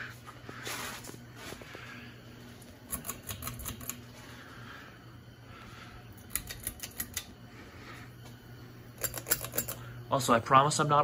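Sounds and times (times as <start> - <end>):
ceiling fans humming: 0.0 - 11.0.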